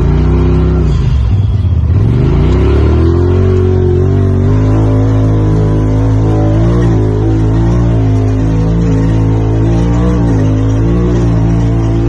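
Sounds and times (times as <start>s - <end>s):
engine at full throttle: 0.0s - 12.0s.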